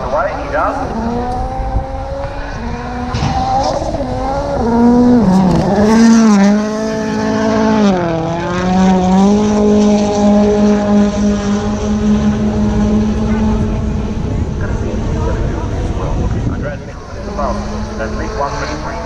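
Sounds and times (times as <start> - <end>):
rally car engine full throttle: 0.0 - 19.0.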